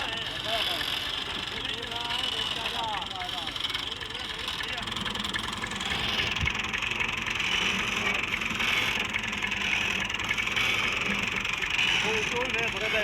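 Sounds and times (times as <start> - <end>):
engine running with rattling clatter: 0.0 - 13.0.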